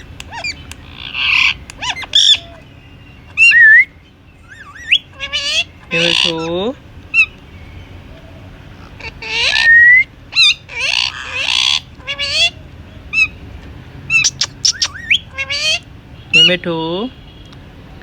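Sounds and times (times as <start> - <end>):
parrot squawking and screeching: 0.0 - 7.4, 8.4 - 13.4, 14.0 - 16.6.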